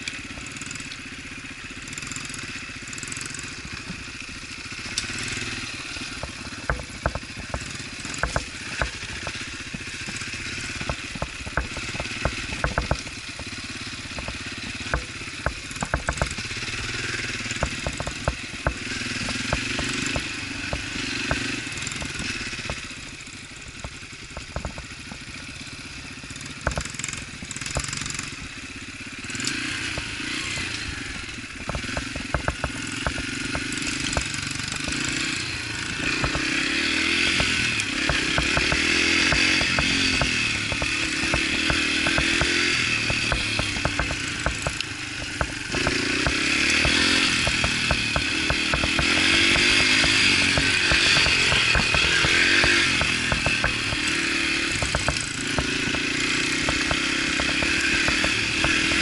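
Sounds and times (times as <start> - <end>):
dirt bike engine running: 0.0 - 59.0
sharp clacks and knocks: 4.8 - 28.6, 29.3 - 59.0.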